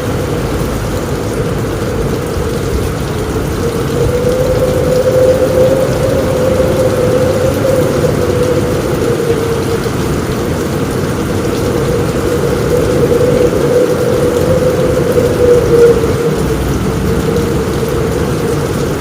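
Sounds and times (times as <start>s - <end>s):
constant hum: 0.0s - 19.0s
heavy rain on a roof: 0.0s - 19.0s
strong wind rumbling: 0.0s - 19.0s.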